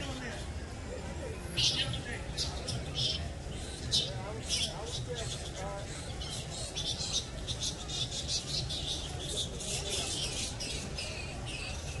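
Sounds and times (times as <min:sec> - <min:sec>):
bats squeaking and chattering: 0:01.6 - 0:12.0.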